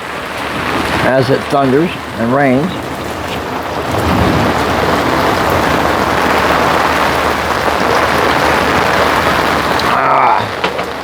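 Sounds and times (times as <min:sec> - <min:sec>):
rain drumming on umbrella: 0:00.0 - 0:11.0.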